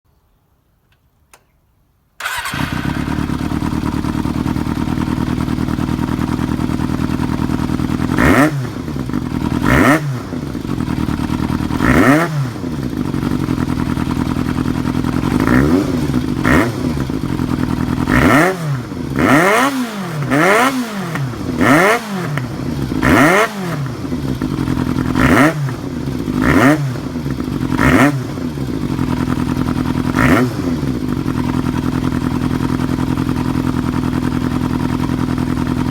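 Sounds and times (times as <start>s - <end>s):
motorcycle engine idling and revving: 2.2s - 35.9s.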